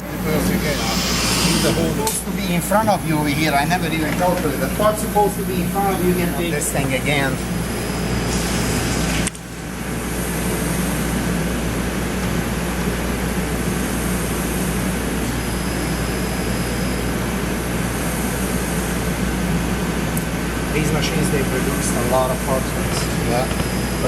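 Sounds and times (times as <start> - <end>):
machine running with low hum: 0.0 - 24.0.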